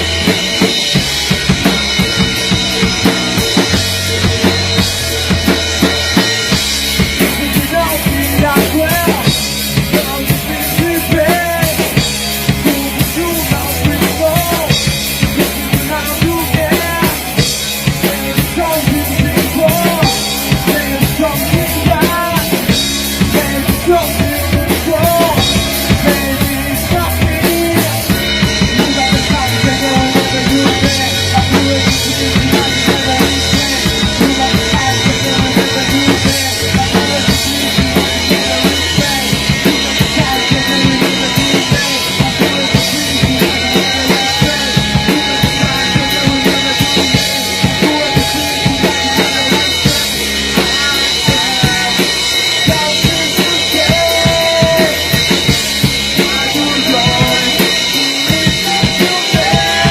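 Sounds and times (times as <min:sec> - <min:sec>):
drum kit beat: 0:00.0 - 0:59.9
pitch-bending melody line: 0:00.0 - 0:59.9.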